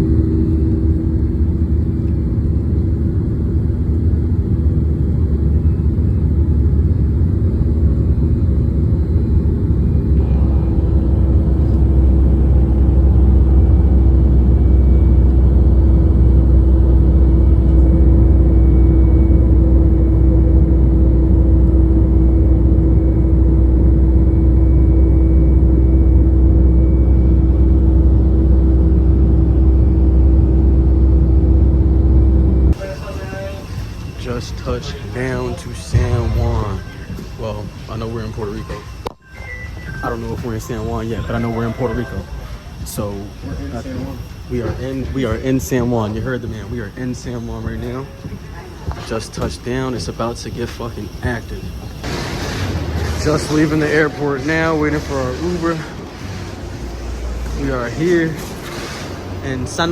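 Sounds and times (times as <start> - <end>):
airliner engines rumbling in cabin: 0.0 - 59.9.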